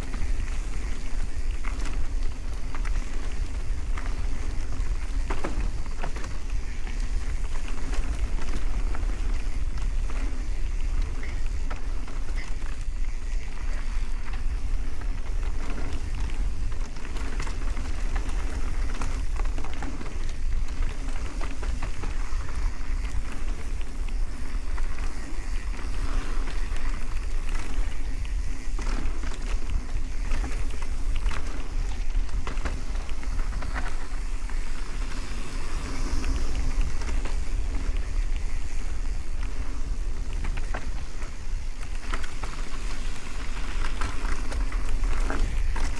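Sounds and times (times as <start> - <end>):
bike rattling and clicking: 0.0 - 45.9
tyres on dirt: 0.0 - 45.9
wind on microphone: 0.0 - 45.9.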